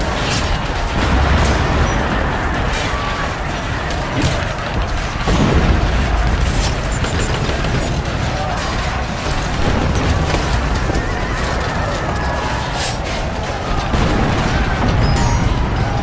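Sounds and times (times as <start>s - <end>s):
booms: 0.0s - 16.0s
gunfire bangs: 0.0s - 16.0s
people shouting: 0.0s - 16.0s
rumble of war noise: 0.0s - 16.0s.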